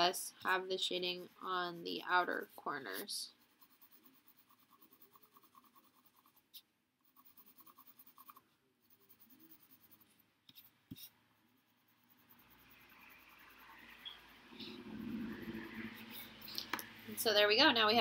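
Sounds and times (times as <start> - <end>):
pencil scratching on paper: 0.4 - 17.2.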